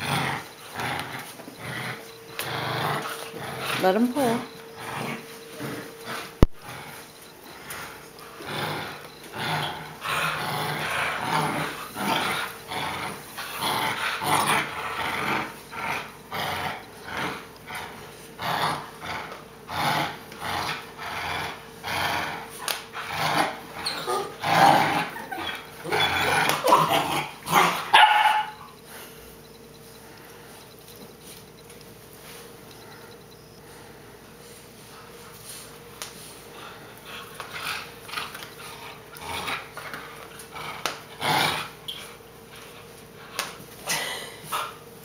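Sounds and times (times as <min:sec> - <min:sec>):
puppies growling and barking: 0:00.0 - 0:31.0, 0:36.6 - 0:43.5.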